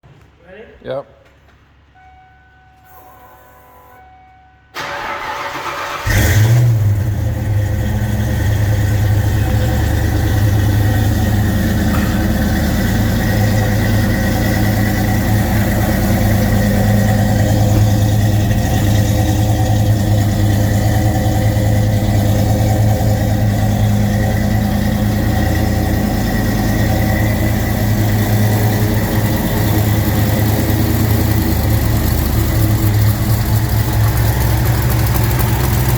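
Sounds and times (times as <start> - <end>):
car engine idling: 4.8 - 35.9.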